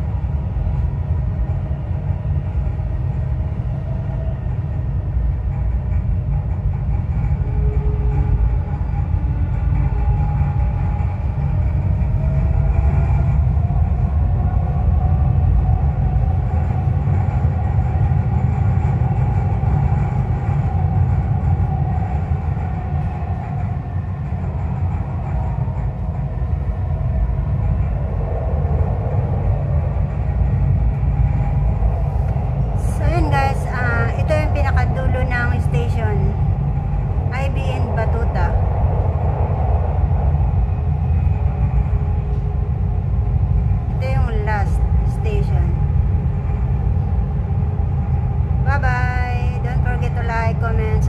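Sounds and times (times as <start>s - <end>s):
faint train whine: 0.0s - 51.0s
train rumble inside carriage: 0.0s - 51.0s.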